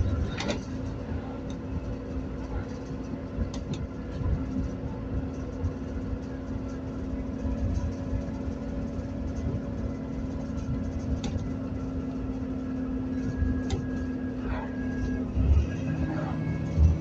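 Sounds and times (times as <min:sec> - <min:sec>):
bus body rattles: 0:00.0 - 0:17.0
bus diesel engine drone: 0:00.0 - 0:17.0
road rumble: 0:00.0 - 0:17.0.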